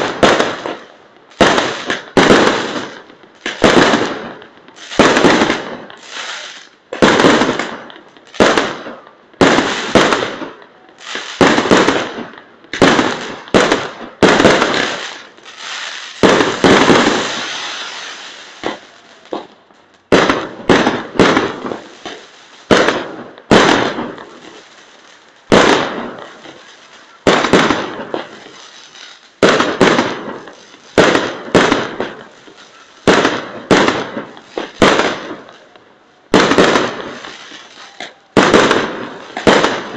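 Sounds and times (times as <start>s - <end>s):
firework hiss: 0.0s - 35.7s, 36.3s - 39.9s
fireworks bangs: 0.0s - 39.9s.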